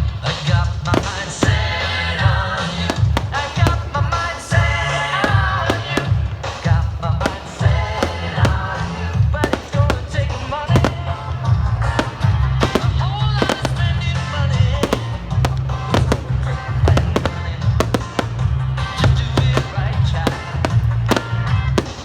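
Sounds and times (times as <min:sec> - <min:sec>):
fireworks bangs and cracks: 0:00.0 - 0:22.0
loud music with heavy bass: 0:00.0 - 0:22.0.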